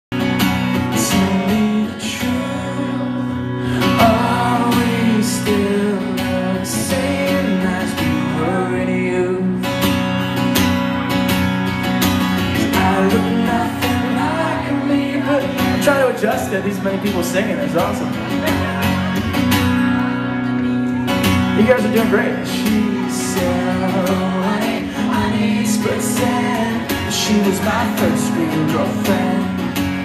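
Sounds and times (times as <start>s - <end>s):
acoustic guitar strumming: 0.1s - 30.0s.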